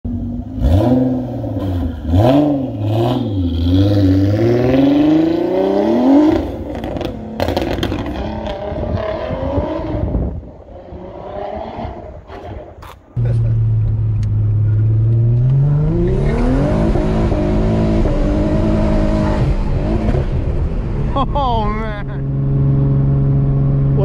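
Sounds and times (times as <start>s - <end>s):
car engine revving: 0.1s - 24.0s.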